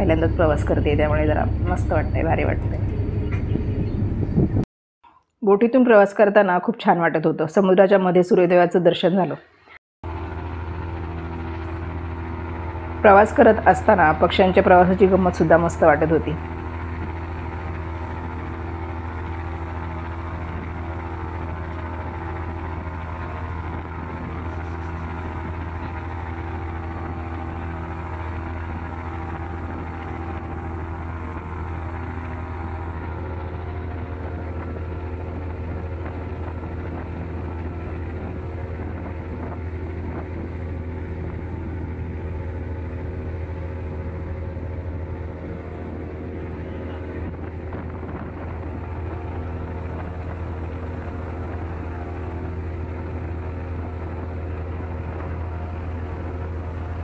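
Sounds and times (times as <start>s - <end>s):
wind: 0.0s - 4.6s, 9.5s - 57.0s
ferry engine droning: 0.0s - 4.7s, 10.0s - 57.0s.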